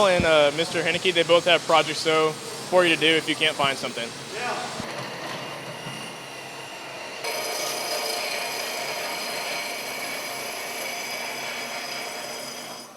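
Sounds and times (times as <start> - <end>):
power tool whining: 2.1 - 12.9.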